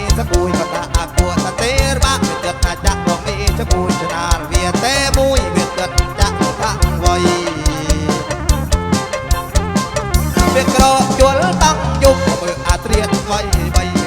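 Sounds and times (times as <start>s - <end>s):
steady drumbeat: 0.0s - 14.0s
melody bending in pitch: 0.3s - 14.0s.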